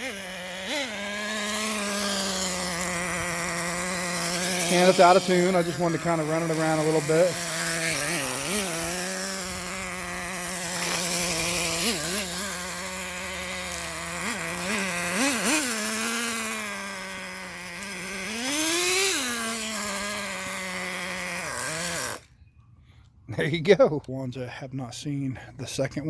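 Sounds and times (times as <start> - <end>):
small engine idling and revving: 0.0 - 22.5.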